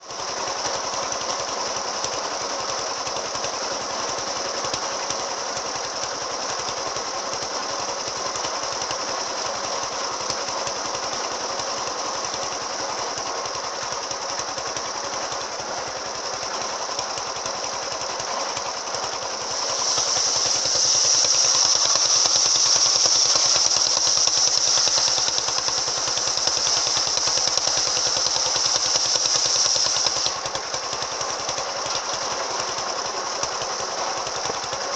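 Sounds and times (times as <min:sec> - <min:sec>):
circular sawmill running: 0:00.0 - 0:34.9.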